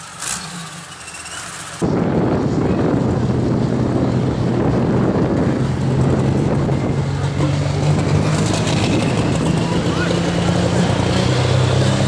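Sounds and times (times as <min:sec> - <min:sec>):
tractor engine under heavy load: 0:00.0 - 0:12.0.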